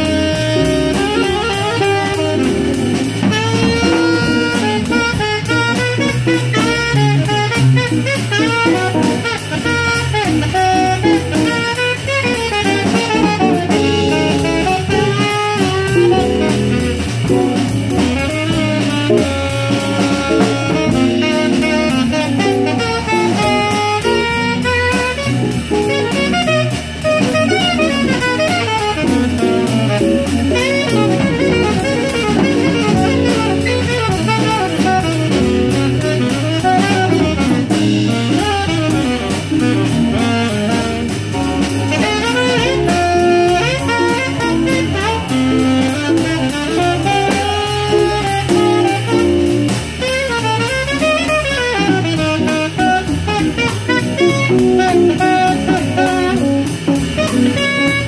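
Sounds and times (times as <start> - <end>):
drum kit with ride cymbal: 0.0 - 58.0
electric guitar: 0.0 - 58.0
saxophone melody: 0.0 - 58.0.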